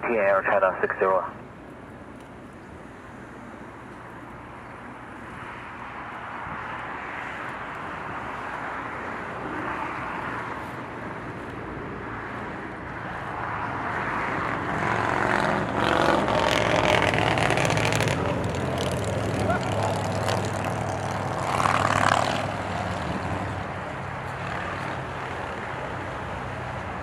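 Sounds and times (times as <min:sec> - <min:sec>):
jet engine whine: 0:00.0 - 0:27.0
jet engines rushing: 0:00.0 - 0:27.0.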